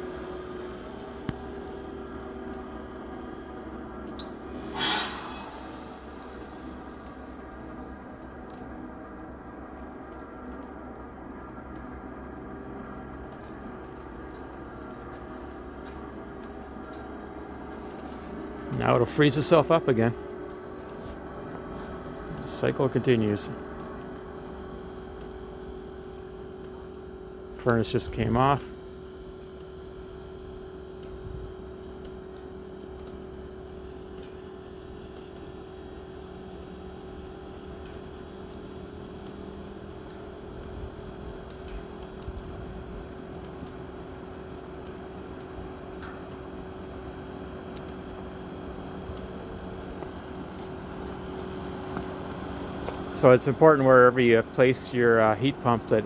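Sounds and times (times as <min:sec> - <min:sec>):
meltwater dripping ticks: 0:00.0 - 0:04.4, 0:05.6 - 0:56.0
heat pump humming: 0:00.0 - 0:56.0.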